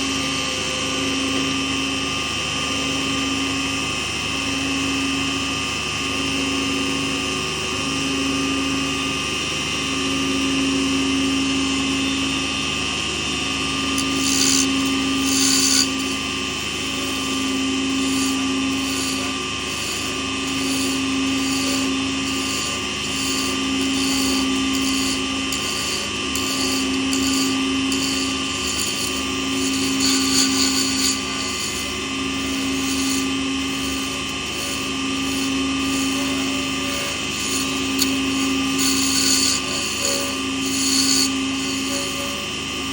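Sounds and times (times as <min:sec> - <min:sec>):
lathe humming and whining: 0:00.0 - 0:42.9.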